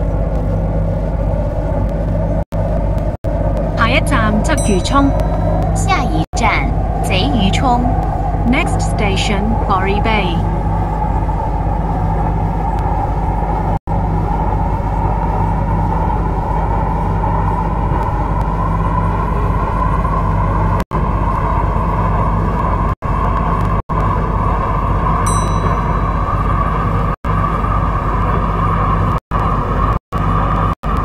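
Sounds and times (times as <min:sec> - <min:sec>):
electric train running: 0:00.0 - 0:31.0.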